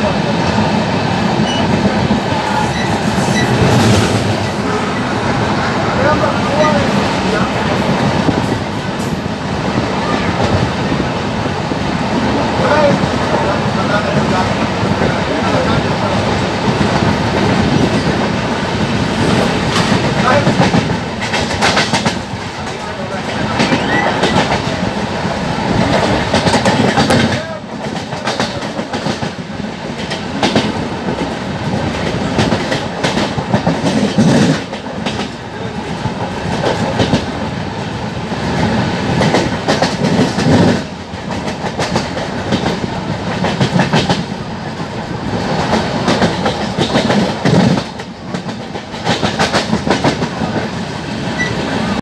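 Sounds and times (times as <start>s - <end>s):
train wheels rushing on rails: 0.0s - 52.0s.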